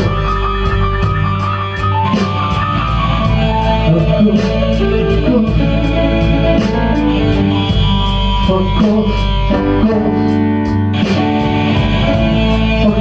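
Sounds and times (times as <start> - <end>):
blues-rock band playing: 0.0 - 13.0
cymbal beat: 0.0 - 13.0
electric guitar: 0.0 - 13.0.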